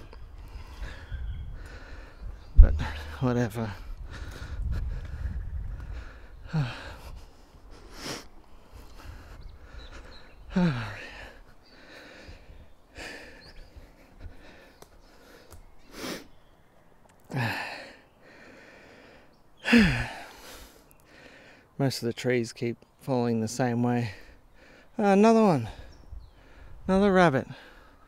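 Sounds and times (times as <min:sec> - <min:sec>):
man breathing hard: 0:00.4 - 0:16.4, 0:17.2 - 0:21.8, 0:24.1 - 0:25.0, 0:25.7 - 0:26.9, 0:27.5 - 0:28.0.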